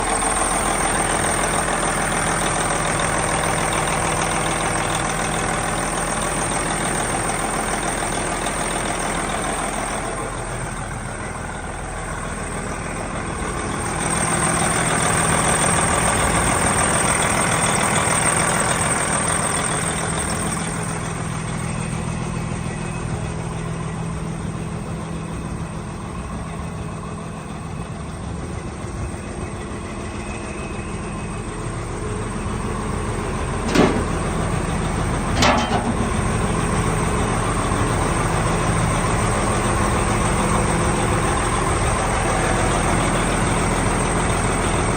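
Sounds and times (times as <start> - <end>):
truck diesel engine idling: 0.0 - 44.9.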